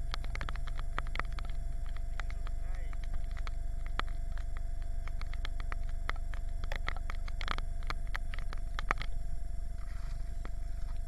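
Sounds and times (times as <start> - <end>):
faint steady whine: 0.0 - 11.0.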